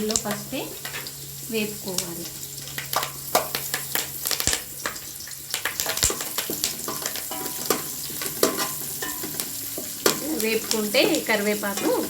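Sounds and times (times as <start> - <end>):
leaves frying in hot oil: 0.0 - 12.0
spatula stirring in pan: 2.2 - 12.0.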